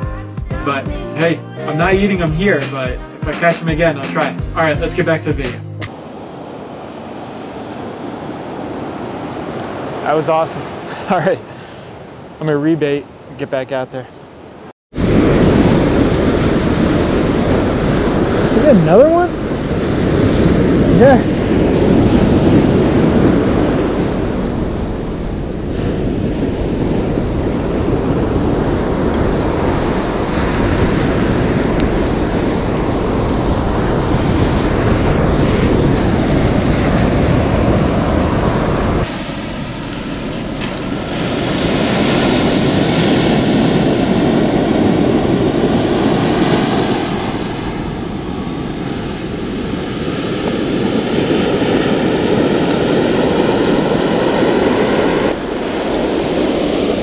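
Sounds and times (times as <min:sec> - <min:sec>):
ocean surf breaking: 0:01.2 - 0:57.0
wind buffeting microphone: 0:05.9 - 0:13.4, 0:14.3 - 0:57.0.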